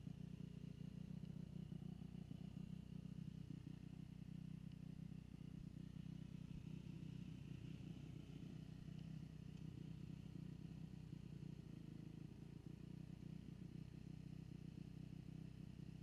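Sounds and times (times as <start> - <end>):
muffled dirt bike engine hum: 0.0 - 16.0.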